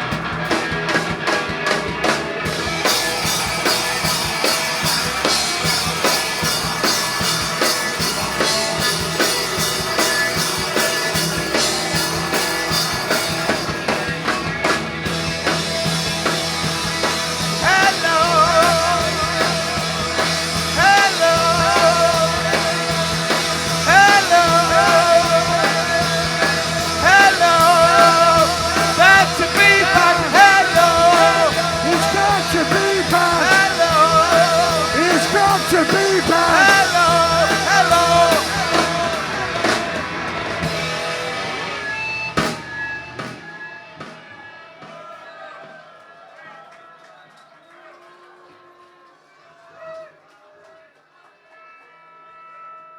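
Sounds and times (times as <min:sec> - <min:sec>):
wavering lead guitar line: 0:00.0 - 0:44.8
rock band playing: 0:00.0 - 0:45.8.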